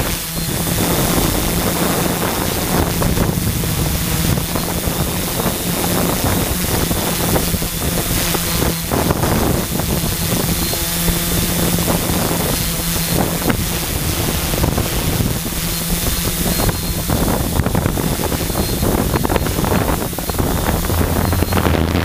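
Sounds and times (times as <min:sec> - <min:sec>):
drone motors humming: 0:00.0 - 0:22.0
wind rushing across microphone: 0:00.0 - 0:22.0.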